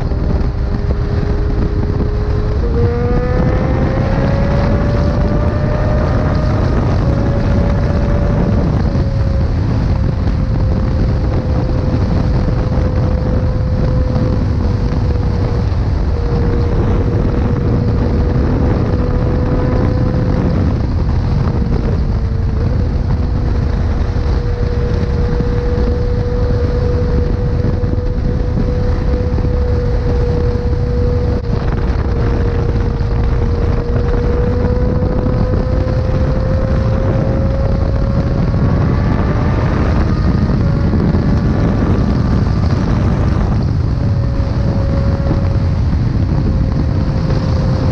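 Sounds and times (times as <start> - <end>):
motorcycle engine high rpm: 0.0 - 47.9
wind rush on microphone: 0.0 - 47.9.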